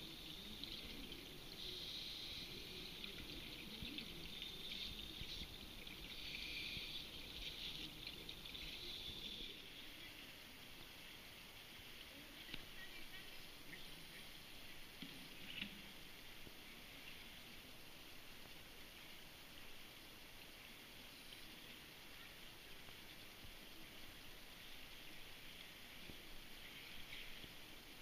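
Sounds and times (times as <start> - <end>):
underwater bubbling and gurgling: 0.0 - 28.0.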